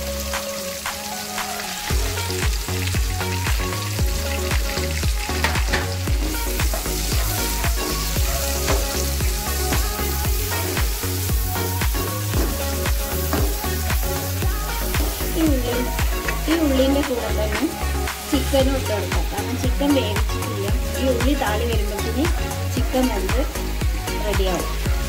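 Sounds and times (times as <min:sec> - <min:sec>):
background music with steady beat: 0:00.0 - 0:25.0
garlic sizzling in hot oil: 0:00.0 - 0:25.0.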